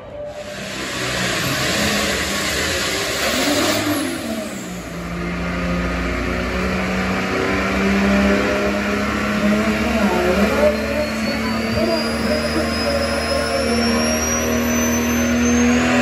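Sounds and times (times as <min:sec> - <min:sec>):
tractor engine at full throttle: 0:00.0 - 0:16.0.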